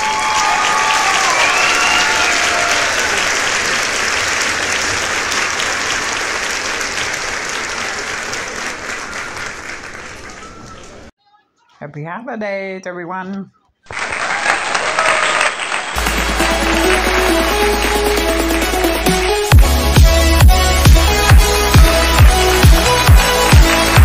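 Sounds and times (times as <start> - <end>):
crowd applause: 0.0 - 11.1, 13.9 - 24.0
people cheering: 0.0 - 11.1, 13.9 - 24.0.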